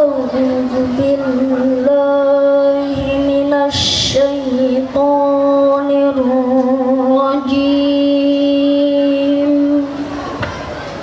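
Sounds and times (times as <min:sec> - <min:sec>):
children chanting recitation: 0:00.0 - 0:10.4.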